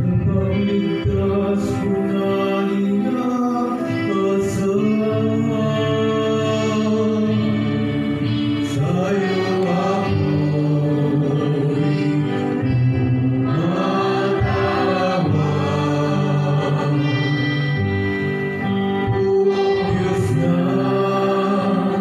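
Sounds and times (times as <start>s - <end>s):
church congregation singing psalm: 0.0s - 22.0s.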